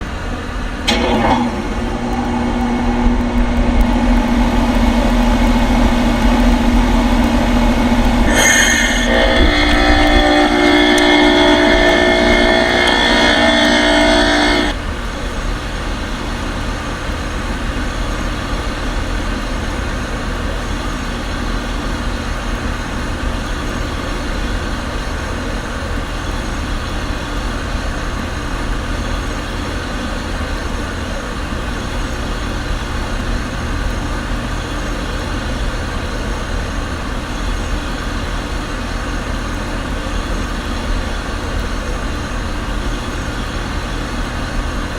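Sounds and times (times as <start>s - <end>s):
heat pump whine: 0.0s - 44.9s
heat pump whoosh and hum: 0.0s - 44.9s.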